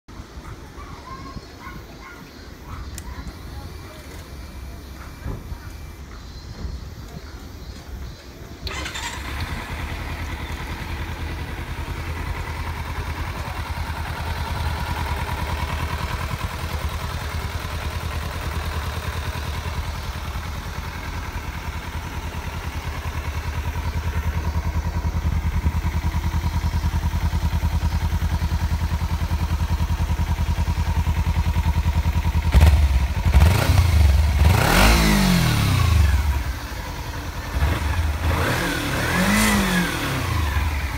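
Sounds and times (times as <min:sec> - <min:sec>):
motorcycle engine idling and revving: 0:00.1 - 0:40.9.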